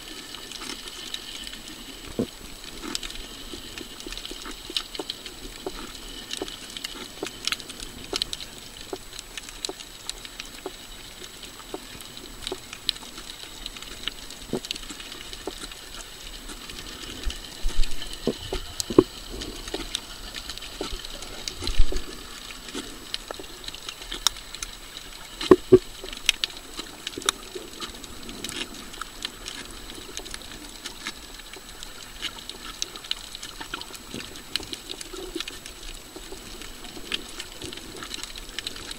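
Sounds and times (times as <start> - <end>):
crackle of reef clicks and pops: 0.0 - 38.9
faint hiss: 0.0 - 38.9.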